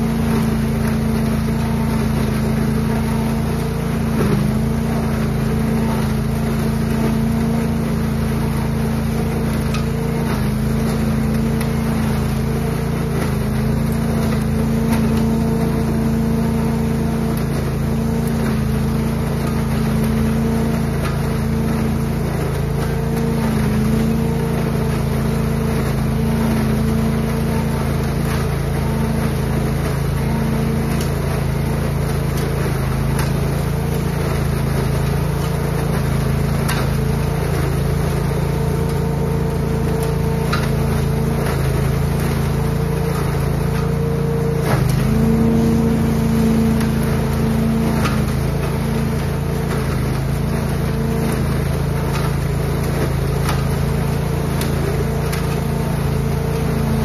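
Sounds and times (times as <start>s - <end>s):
leaf vacuum engine humming: 0.0s - 57.0s.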